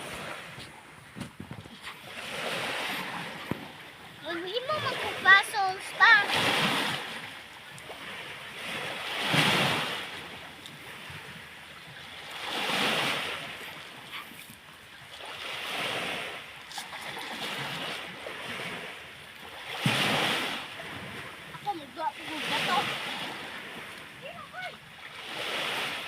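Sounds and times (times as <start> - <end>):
small waves washing onto sand: 0.0 - 26.0.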